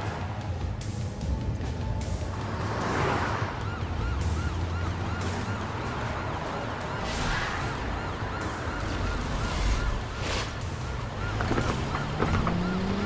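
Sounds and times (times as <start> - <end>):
car engine revving: 0.1 - 13.0
police siren wailing: 1.3 - 13.0.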